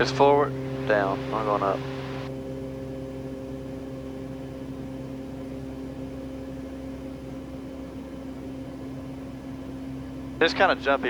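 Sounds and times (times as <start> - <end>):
turboprop cockpit drone: 0.0 - 11.0.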